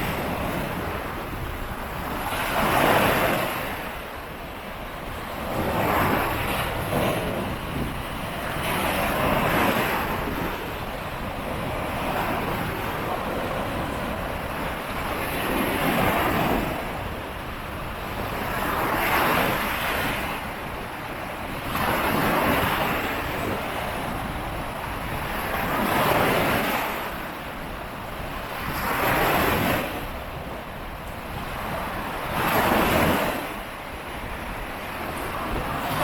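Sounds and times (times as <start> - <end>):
ocean waves washing onto beach: 0.0 - 36.0
wind buffeting microphone: 0.0 - 36.0.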